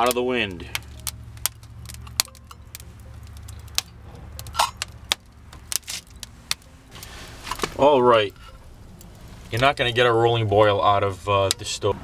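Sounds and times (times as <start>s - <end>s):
low steady rumble: 0.0s - 12.0s
wood fire crackling and popping: 0.0s - 12.0s.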